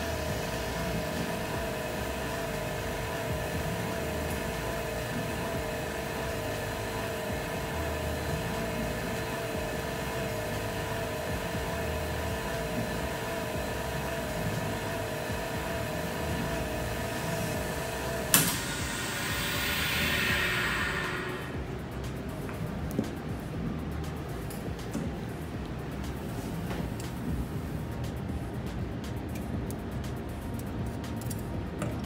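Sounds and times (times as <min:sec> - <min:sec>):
vacuum laminator humming: 0:00.0 - 0:32.0.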